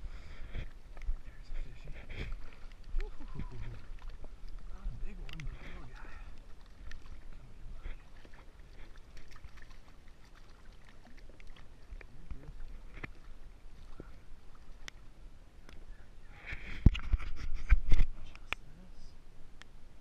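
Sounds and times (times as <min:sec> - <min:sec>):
shallow water sloshing: 0:00.0 - 0:18.2.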